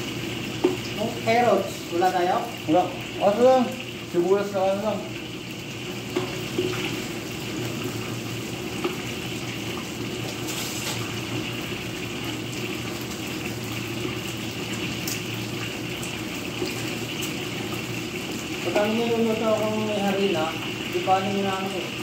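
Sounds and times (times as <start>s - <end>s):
food frying in hot oil: 0.0s - 22.0s.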